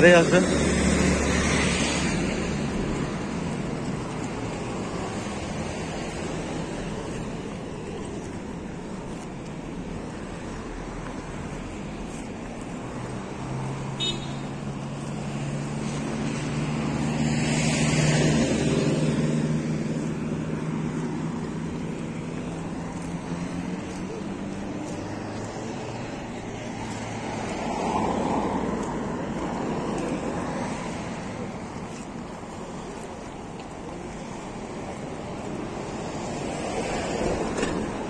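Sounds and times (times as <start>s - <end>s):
cars and trucks driving past: 0.0s - 38.0s.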